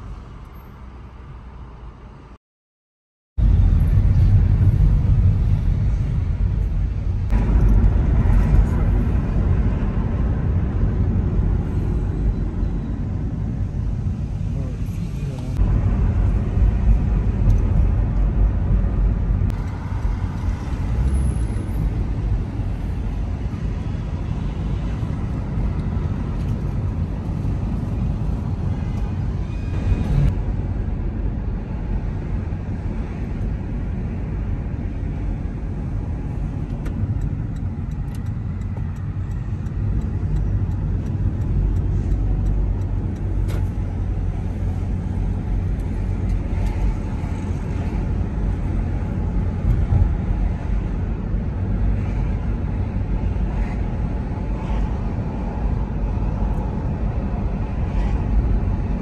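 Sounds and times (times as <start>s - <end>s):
car engine and tyre rumble: 0.0s - 2.4s, 3.4s - 59.0s.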